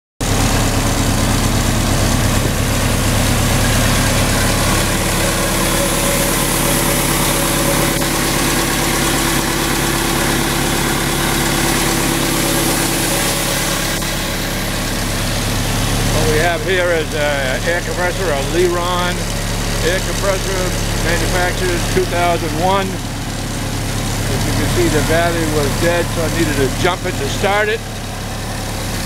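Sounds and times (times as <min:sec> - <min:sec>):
air compressor diesel drone: 0:00.2 - 0:29.0.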